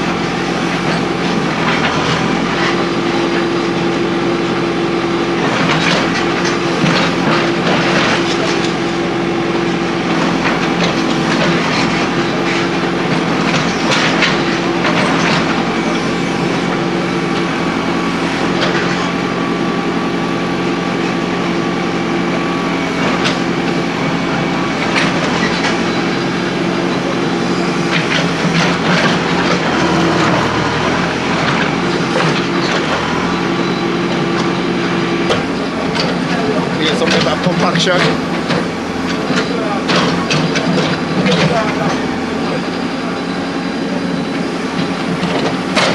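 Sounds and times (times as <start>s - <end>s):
compactor engine humming: 0.0s - 45.9s.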